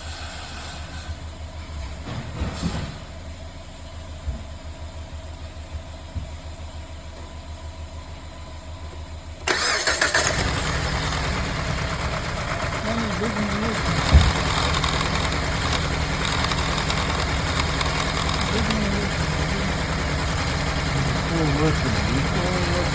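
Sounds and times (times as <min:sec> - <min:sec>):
car engine idling unevenly: 0:03.5 - 0:22.9.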